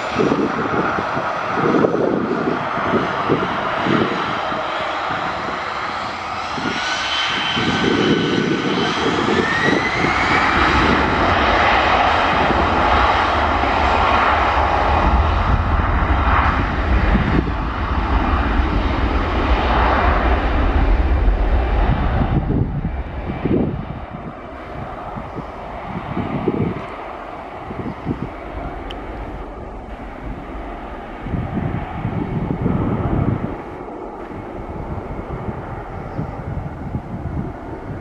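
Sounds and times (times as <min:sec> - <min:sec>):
aeroplane engines roaring: 0:00.0 - 0:38.0.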